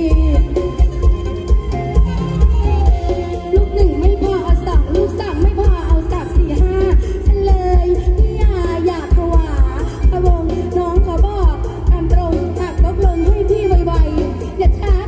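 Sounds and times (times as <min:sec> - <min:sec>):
woman singing: 0:00.0 - 0:01.1, 0:03.3 - 0:15.0
live band music: 0:00.0 - 0:15.0.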